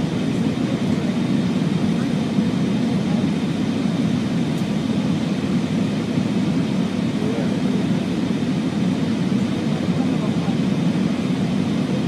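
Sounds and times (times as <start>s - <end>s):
cockpit airflow and engine noise: 0.0s - 12.0s.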